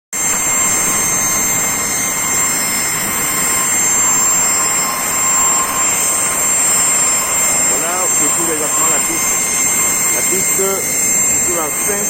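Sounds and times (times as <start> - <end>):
high turbine whine: 0.1 - 12.0
jet engine roaring: 0.2 - 12.0.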